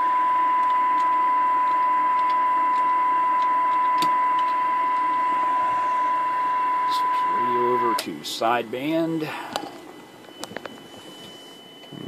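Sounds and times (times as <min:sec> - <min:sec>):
radio test tone with hiss: 0:00.0 - 0:12.0.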